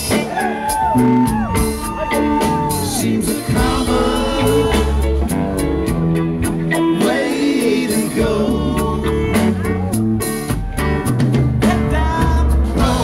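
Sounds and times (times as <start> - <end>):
voices singing: 0.0 - 5.8, 6.4 - 10.5, 11.6 - 13.0
live rock band playing: 0.0 - 13.0.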